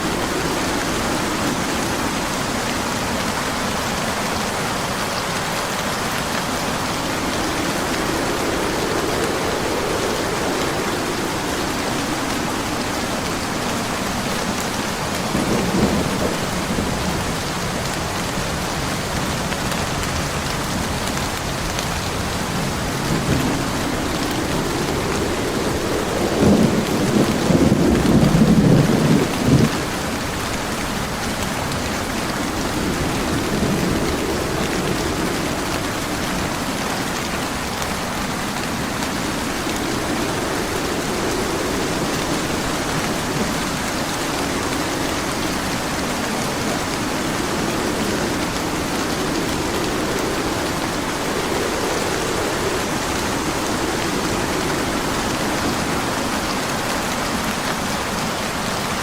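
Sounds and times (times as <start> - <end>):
heavy rain: 0.0 - 59.0
thunder rumbling: 0.0 - 59.0.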